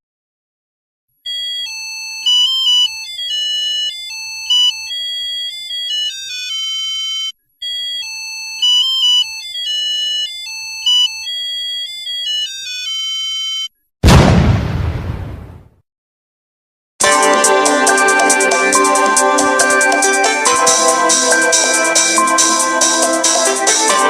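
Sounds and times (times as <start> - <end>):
smartphone ringtone melody: 1.2 - 13.7, 17.0 - 24.0.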